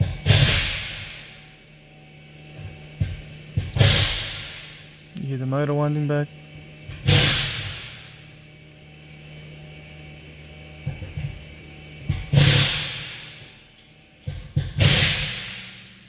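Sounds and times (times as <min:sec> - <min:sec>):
electric brake motor humming: 0:00.0 - 0:16.0.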